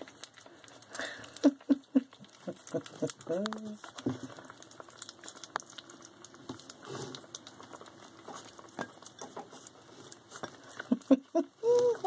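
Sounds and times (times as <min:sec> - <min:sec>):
puppies eating: 0:00.0 - 0:12.0.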